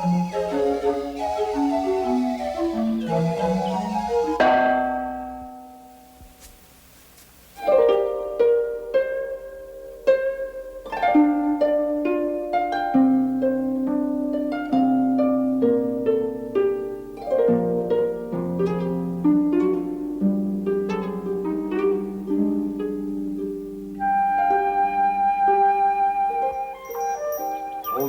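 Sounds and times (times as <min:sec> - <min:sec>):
harp and strings melody: 0:00.0 - 0:06.1, 0:07.6 - 0:28.0.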